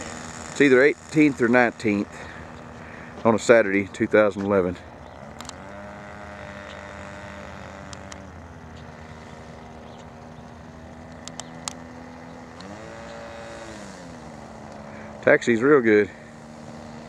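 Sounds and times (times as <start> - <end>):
model airplane engine running: 0.0 - 17.0.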